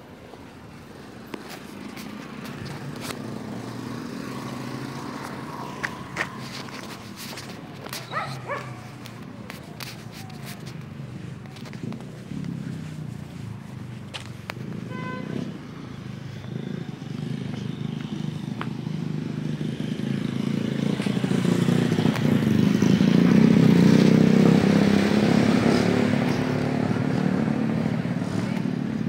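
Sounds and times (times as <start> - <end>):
vehicle engine passing: 1.0 - 29.0.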